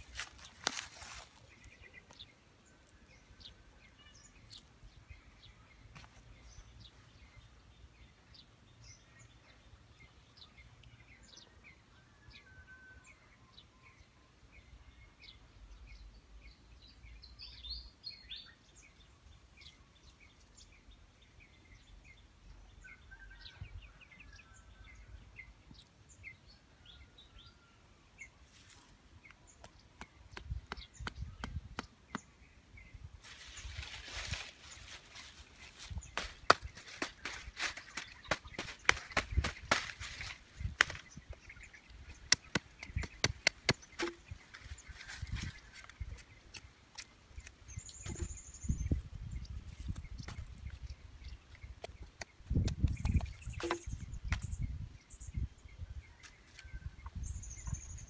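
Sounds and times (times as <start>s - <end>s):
small birds chirping: 0.0s - 12.0s, 13.0s - 58.0s.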